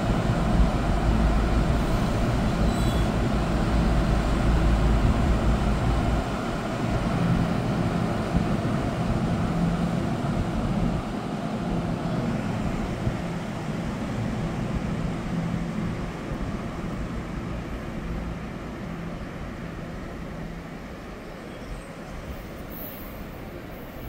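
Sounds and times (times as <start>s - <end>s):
train rumble and hum: 0.0s - 24.0s.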